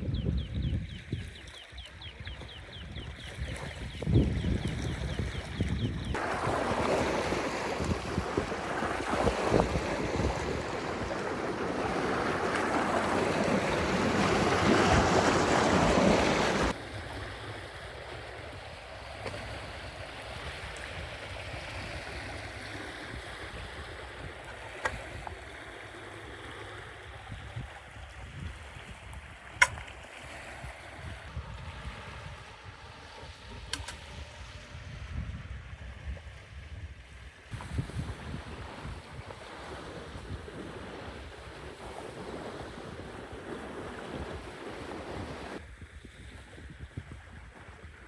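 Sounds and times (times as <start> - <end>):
lakeside ambience: 0.0 - 48.0
rushing water or wind: 0.0 - 48.0.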